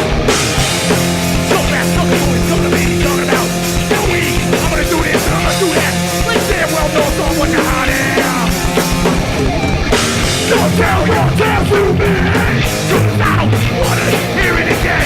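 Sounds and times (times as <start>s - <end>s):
punk band playing live: 0.0s - 15.0s.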